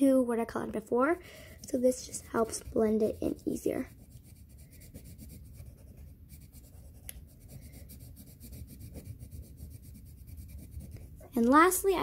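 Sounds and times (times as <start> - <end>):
colouring stick scrubbing on paper: 1.3 - 11.6.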